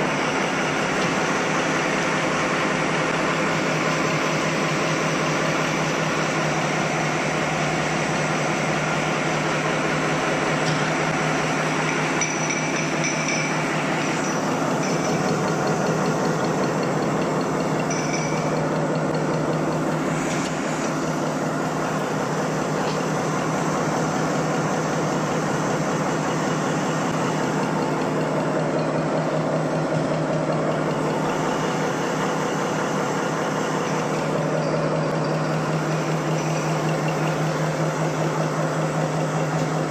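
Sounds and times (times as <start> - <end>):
folding machine humming: 0.0 - 39.9.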